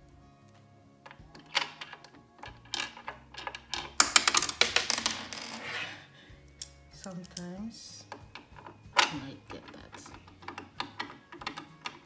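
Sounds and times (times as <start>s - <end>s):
plastic parts clicking and rattling: 1.0s - 5.4s, 6.6s - 12.0s.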